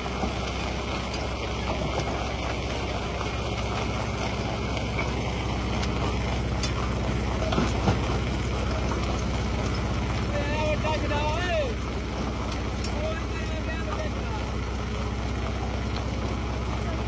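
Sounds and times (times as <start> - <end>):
rock crusher humming: 0.0 - 17.0.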